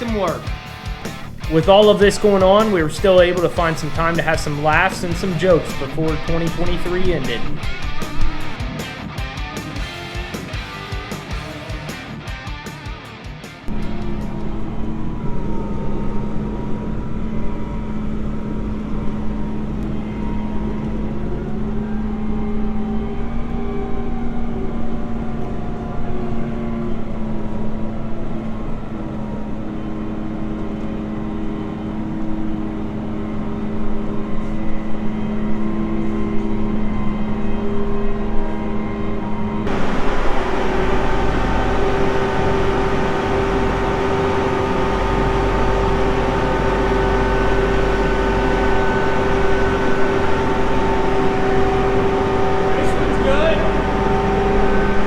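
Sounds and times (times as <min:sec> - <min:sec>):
engine humming high and bright: 0:00.0 - 0:55.0
engine running: 0:00.0 - 0:55.0.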